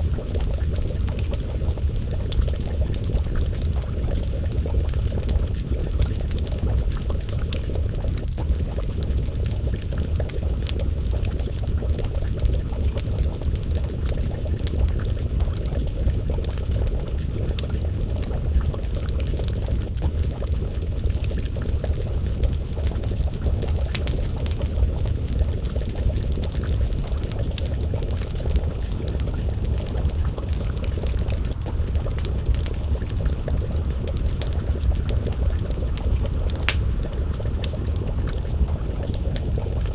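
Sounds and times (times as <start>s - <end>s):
stew bubbling in a pot: 0.0s - 39.9s
wood fire crackling: 0.0s - 39.9s.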